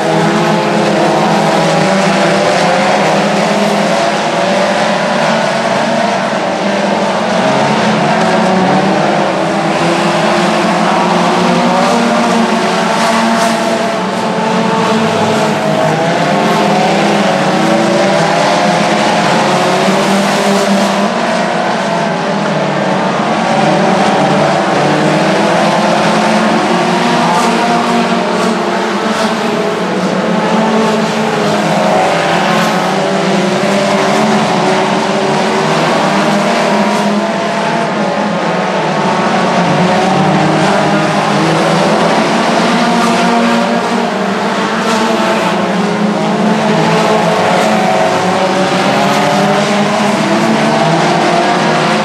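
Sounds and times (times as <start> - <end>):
race car engines passing: 0.0 - 52.0.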